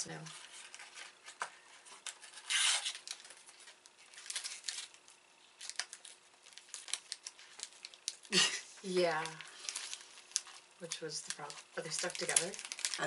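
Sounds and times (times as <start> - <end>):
packaging rustling and crackling: 0.0 - 13.0
packaging tearing: 2.0 - 13.0.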